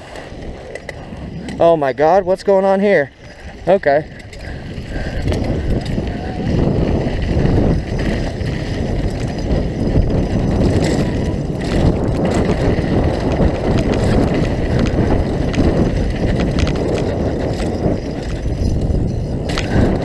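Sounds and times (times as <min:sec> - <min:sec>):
bike tyres rumbling over dirt: 0:00.0 - 0:20.0
gravel and bike rattles: 0:00.0 - 0:20.0
wind on microphone: 0:00.0 - 0:20.0.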